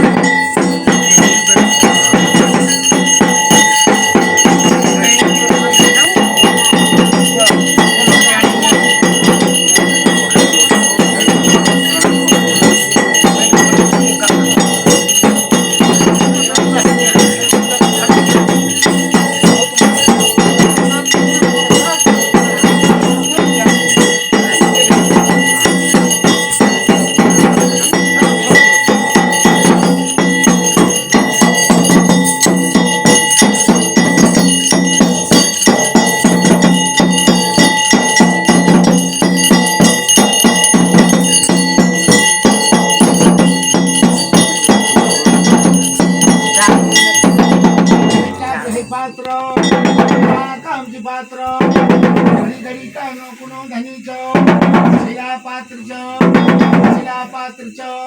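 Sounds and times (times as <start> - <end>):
bells ringing: 0.0 - 58.0
rapid percussive strikes: 0.0 - 58.0.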